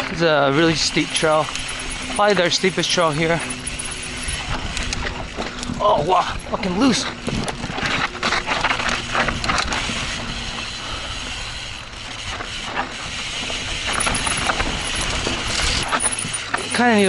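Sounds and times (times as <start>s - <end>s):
bike hub ratcheting: 0.0s - 17.0s
chain and frame rattling: 0.0s - 17.0s.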